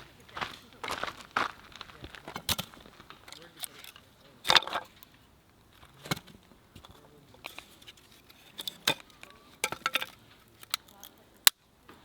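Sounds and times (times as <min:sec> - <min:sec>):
sharp handling clicks and knocks: 0:01.6 - 0:12.0.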